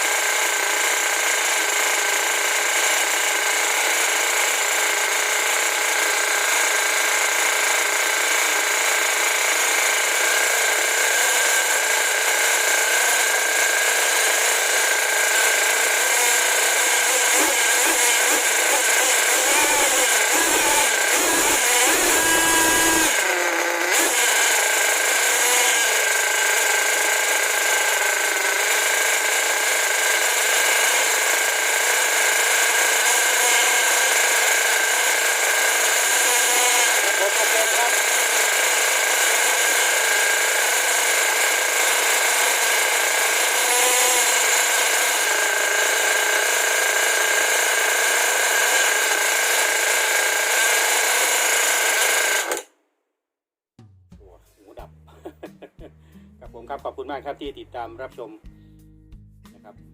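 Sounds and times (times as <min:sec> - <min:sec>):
model engine buzzing: 0:00.0 - 0:52.7.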